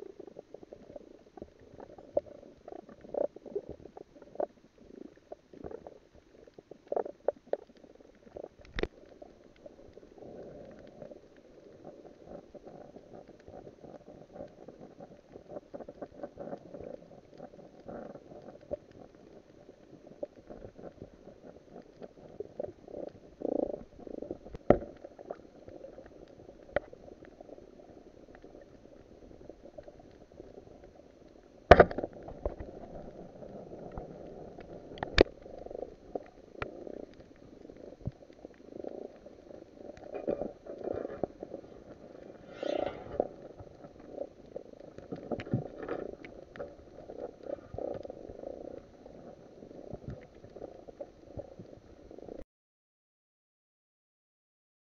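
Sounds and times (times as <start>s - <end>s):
muffled underwater wash: 0.0s - 52.4s.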